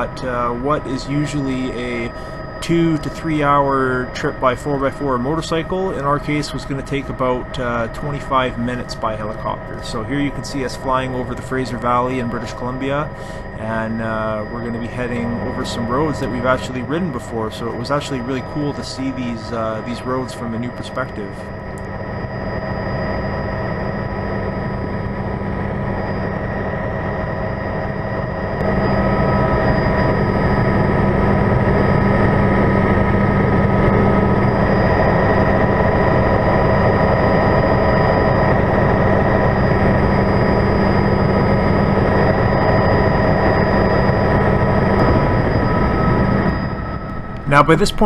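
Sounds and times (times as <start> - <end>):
helicopter engine whine and drone: 0.0 - 48.0.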